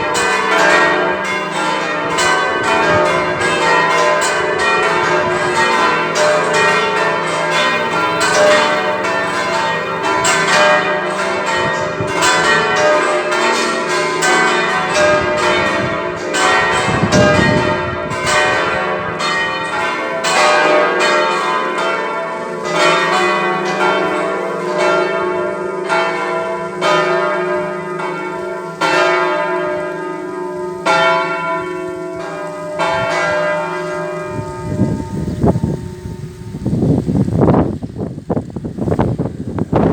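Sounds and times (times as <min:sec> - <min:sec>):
church bells ringing: 0:00.0 - 0:37.7.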